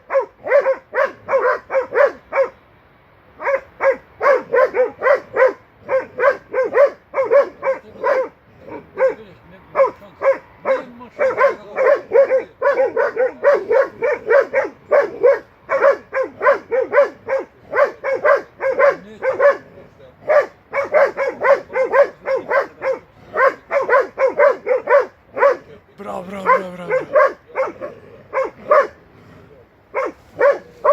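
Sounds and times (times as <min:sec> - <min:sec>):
dog barking fast: 0:00.0 - 0:02.6, 0:03.4 - 0:29.0, 0:29.9 - 0:30.9.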